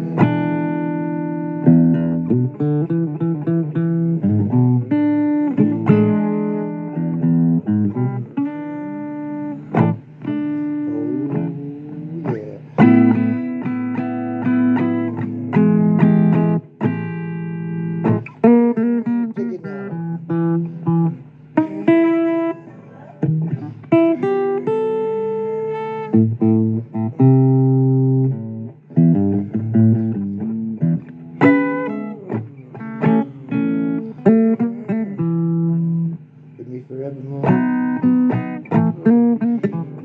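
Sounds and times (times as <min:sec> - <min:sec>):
blues guitar playing: 0:00.0 - 0:40.0.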